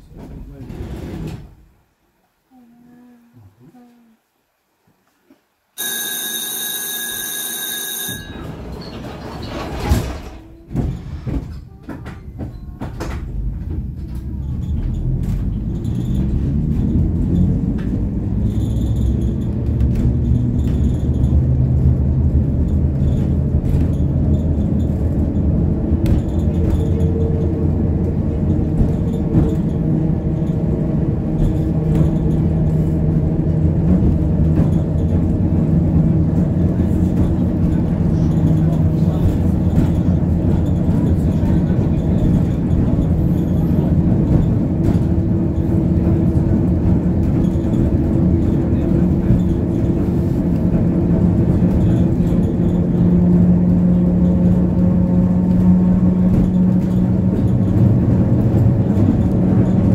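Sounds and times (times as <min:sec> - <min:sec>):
tram motors and wheels rumbling: 0:00.0 - 0:01.6, 0:05.8 - 0:59.9.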